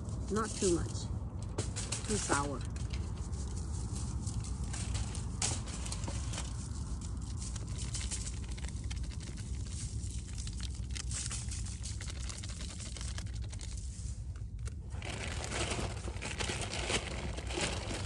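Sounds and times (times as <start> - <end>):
aluminium foil crackling: 0.0 - 18.0
steady low rumble: 0.0 - 18.0
plastic packet crinkling: 2.0 - 18.0.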